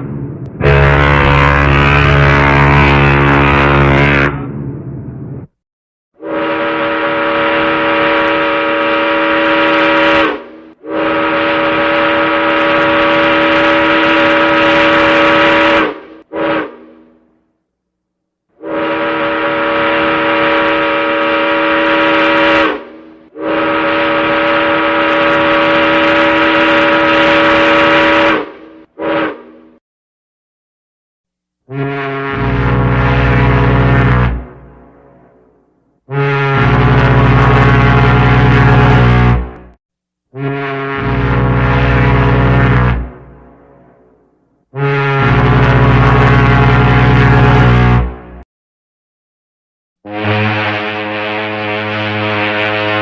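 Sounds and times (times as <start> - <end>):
ship's horn blasts: 0.4 - 5.0, 6.2 - 17.2, 18.5 - 29.8, 31.7 - 48.4, 50.0 - 53.0.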